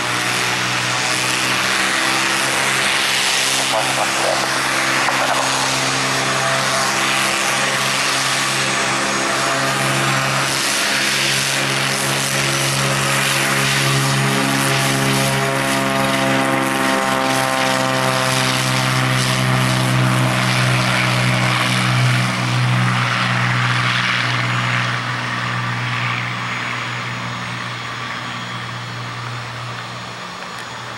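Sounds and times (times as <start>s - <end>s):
aircraft engine and propeller: 0.0s - 30.9s.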